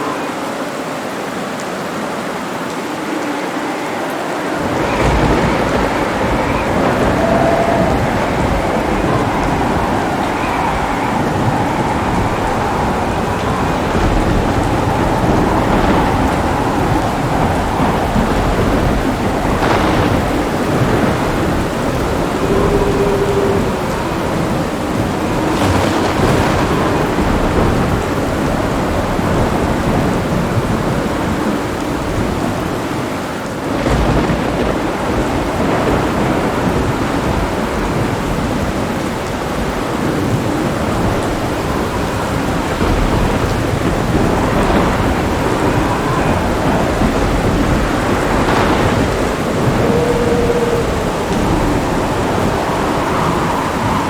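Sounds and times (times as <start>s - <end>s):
heavy rain: 0.0s - 54.0s
thunder rumbling: 2.8s - 54.0s.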